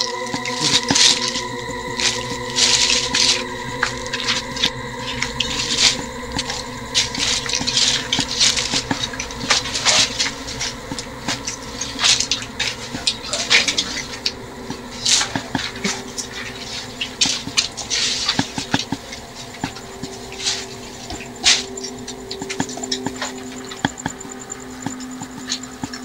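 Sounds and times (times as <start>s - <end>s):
clothing rustle: 0.0s - 23.8s
faint steady hum: 0.0s - 26.0s
footsteps: 0.0s - 26.0s.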